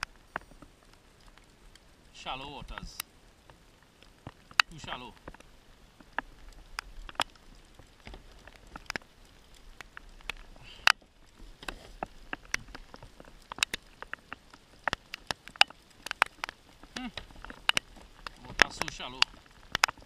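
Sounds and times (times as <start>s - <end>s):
rain drops tapping on plastic: 0.0s - 20.0s.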